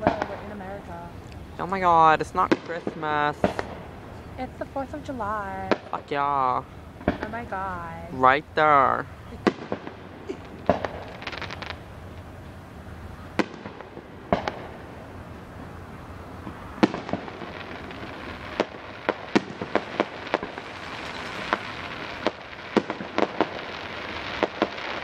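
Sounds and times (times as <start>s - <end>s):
crackling hiss: 0.0s - 25.0s
fireworks bangs: 0.0s - 25.0s.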